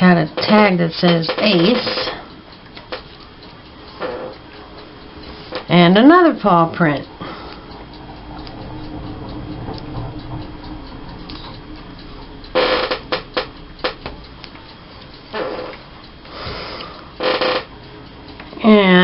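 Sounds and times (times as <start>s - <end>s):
faint steady background hum: 0.0s - 19.0s.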